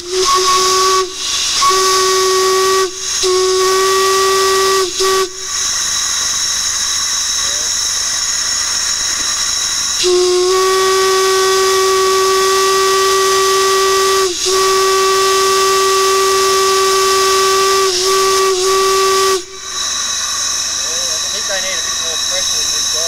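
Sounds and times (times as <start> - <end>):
deep steam whistle: 0.0 - 23.0
high shrill steam whistle: 0.0 - 23.0
steam hiss: 0.0 - 23.0.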